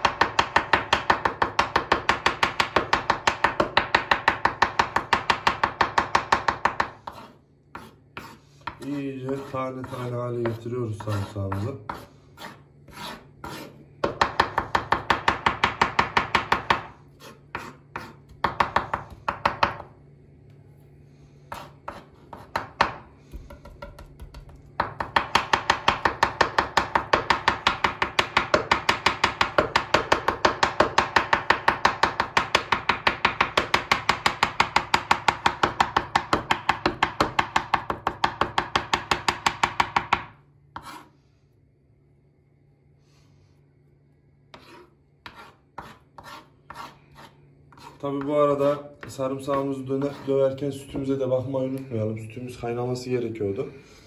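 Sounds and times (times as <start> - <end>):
knife chopping garlic: 0.0 - 20.0, 21.5 - 41.1, 44.5 - 50.5.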